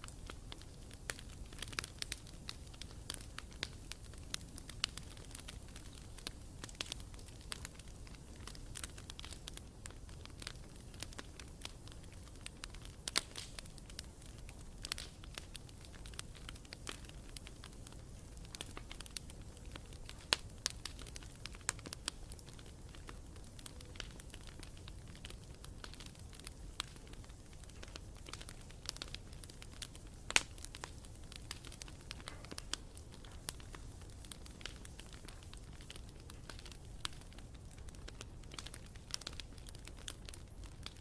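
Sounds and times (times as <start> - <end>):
low rumble of flames: 0.0 - 41.0
wood crackling and popping: 0.0 - 41.0.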